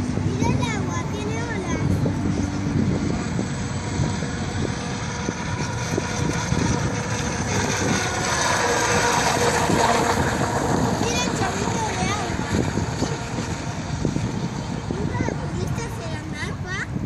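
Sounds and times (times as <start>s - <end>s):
model boat engine whining: 0.0s - 17.0s
wind on microphone: 0.0s - 17.0s.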